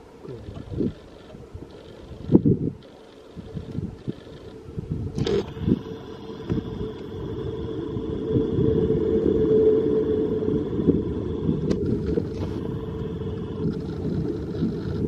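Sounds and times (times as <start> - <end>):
faint motor whine: 0.0 - 15.0.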